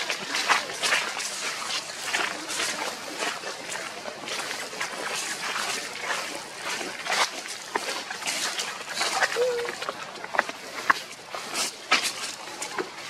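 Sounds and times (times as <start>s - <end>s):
footsteps on dry leaves: 0.0s - 13.0s.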